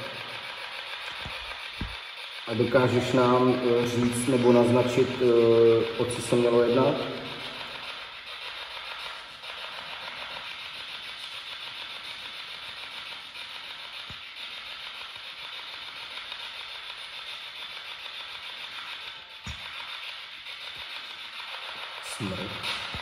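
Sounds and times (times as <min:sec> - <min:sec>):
static hiss: 0:00.0 - 0:23.0.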